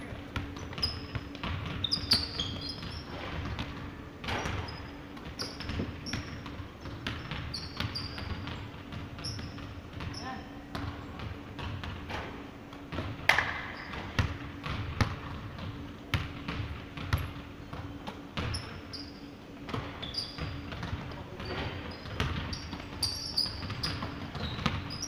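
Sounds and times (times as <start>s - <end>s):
basketball bouncing on wooden floor: 0.1s - 18.8s, 19.7s - 25.0s
sneaker squeaks: 0.4s - 16.2s, 17.0s - 25.0s.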